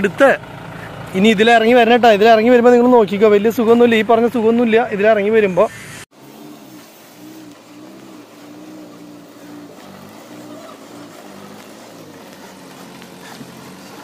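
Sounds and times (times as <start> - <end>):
diesel truck engine at low revs: 0.0 - 5.5, 6.1 - 14.0.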